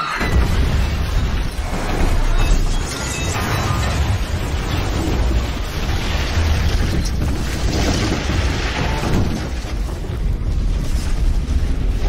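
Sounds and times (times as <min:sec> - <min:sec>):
building collapsing rumble: 0:00.2 - 0:12.0.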